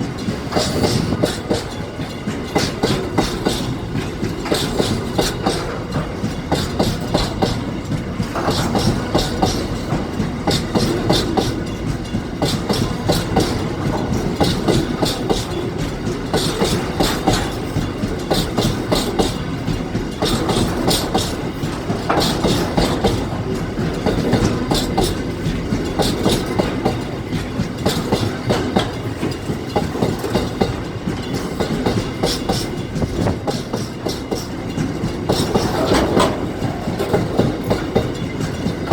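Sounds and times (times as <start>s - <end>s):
train rumble: 0.0s - 38.9s
wheels clicking over rail joints: 0.0s - 38.9s.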